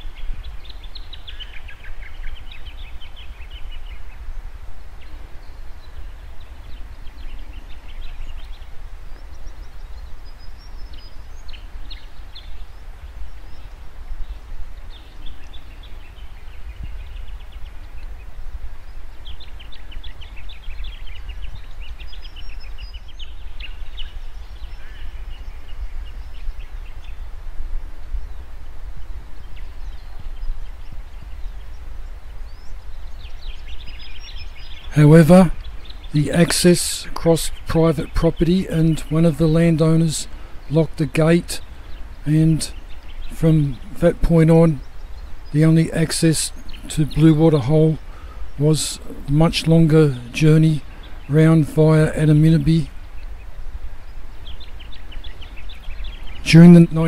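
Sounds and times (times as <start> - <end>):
birds trilling and chirping: 0.0 - 57.0.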